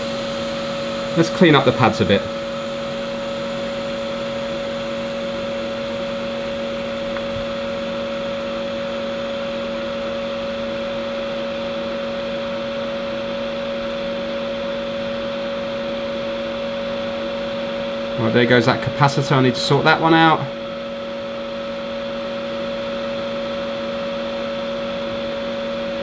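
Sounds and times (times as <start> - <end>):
electric fan whirring: 0.0 - 26.0.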